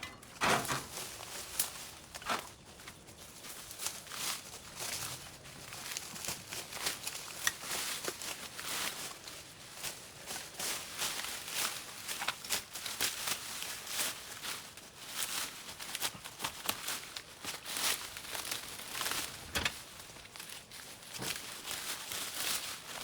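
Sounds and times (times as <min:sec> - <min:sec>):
leaves and stems rustling: 0:00.0 - 0:23.0.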